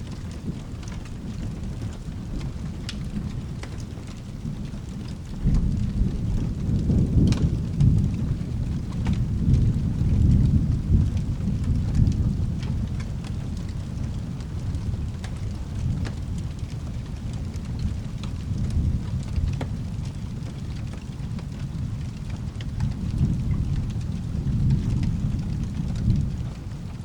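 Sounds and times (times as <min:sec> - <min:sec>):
sharp ticks and drips: 0:00.0 - 0:27.0
steady rain: 0:00.0 - 0:27.0
thunder rumbling: 0:00.0 - 0:27.0.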